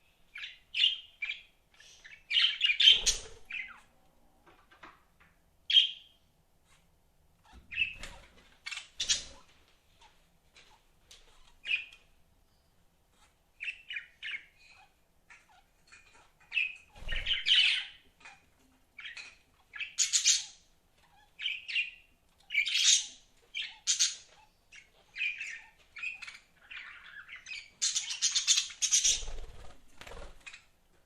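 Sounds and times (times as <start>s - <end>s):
budgerigars chirping and chattering: 0.3s - 3.9s, 7.4s - 12.0s, 13.1s - 30.7s.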